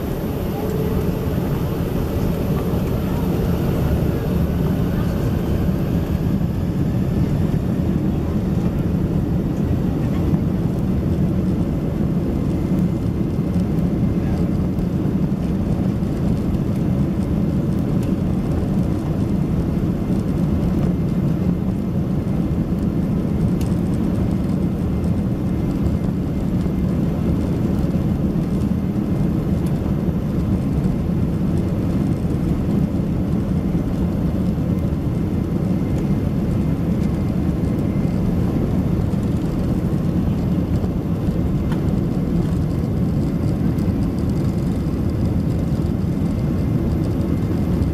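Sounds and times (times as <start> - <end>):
airplane cabin engine roar: 0.0 - 47.9.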